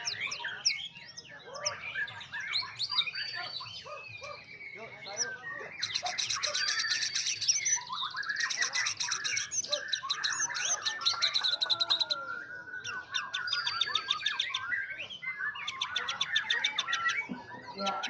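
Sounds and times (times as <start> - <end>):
songbirds trilling and whistling: 0.0 - 18.0.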